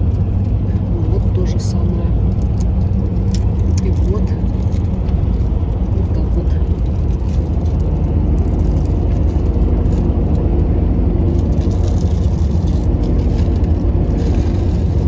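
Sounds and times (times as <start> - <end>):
bus engine drone and tyres: 0.0 - 15.0.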